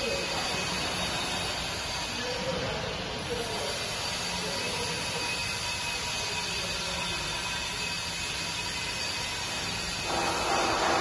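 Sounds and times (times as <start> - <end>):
concrete pump running: 0.0 - 11.0.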